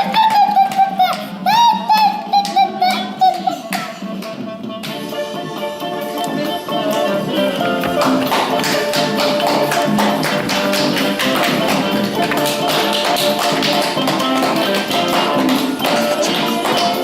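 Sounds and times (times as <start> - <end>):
lively latin-flavoured music: 0.0 - 17.0.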